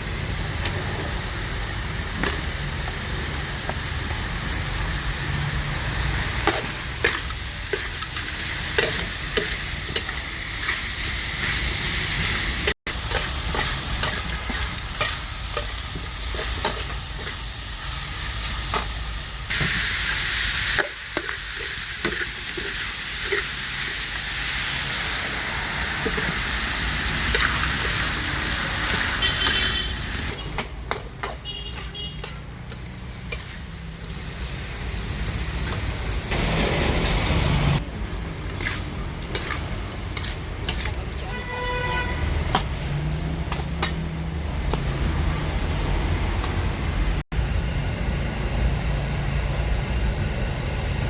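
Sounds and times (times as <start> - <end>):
chicken sizzling in oil: 0.0 - 51.0.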